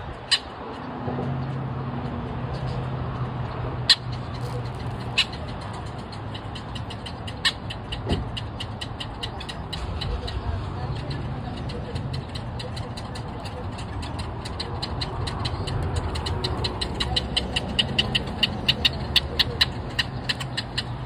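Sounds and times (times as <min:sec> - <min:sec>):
birds giving clicking calls: 0:00.0 - 0:21.0
low vehicle engine hum: 0:00.0 - 0:21.0.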